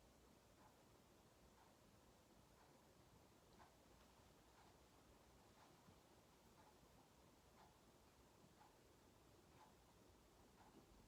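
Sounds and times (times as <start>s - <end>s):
faint ticking: 0.0s - 11.0s.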